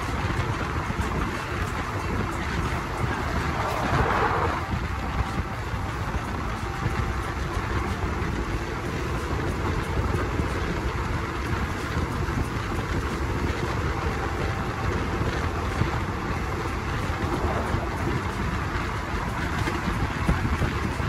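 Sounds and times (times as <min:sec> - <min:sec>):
train wheels rumbling: 0:00.0 - 0:21.0
wind rushing past microphone: 0:00.0 - 0:21.0.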